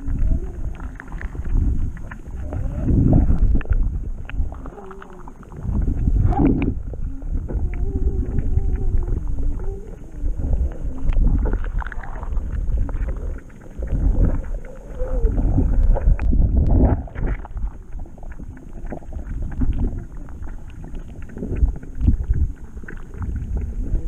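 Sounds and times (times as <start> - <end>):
low underwater rumble: 0.0 - 24.0.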